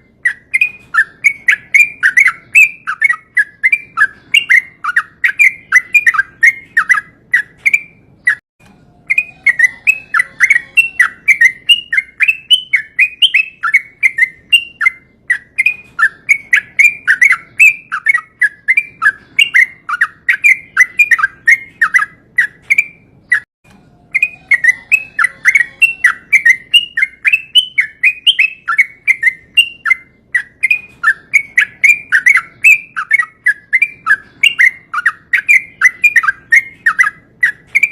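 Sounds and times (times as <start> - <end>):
bird rapid chirping song: 0.0 - 8.4, 9.0 - 23.5, 24.1 - 37.9.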